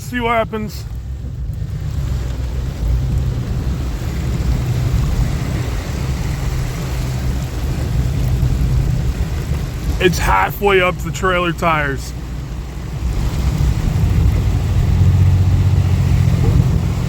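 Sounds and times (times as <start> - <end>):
vehicle engine rumbling: 0.0 - 17.0
water rushing: 0.0 - 17.0.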